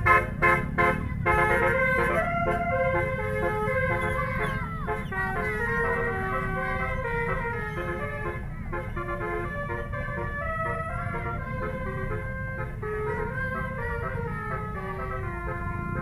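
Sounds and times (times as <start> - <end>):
low bus rumble: 0.0 - 16.0
multi-tone bus horn melody: 0.0 - 16.0.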